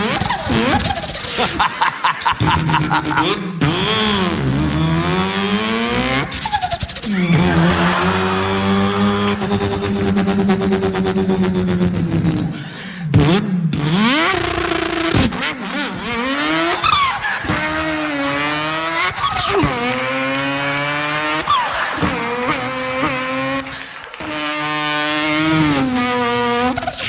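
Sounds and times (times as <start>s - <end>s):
person imitating car engines: 0.0s - 27.0s.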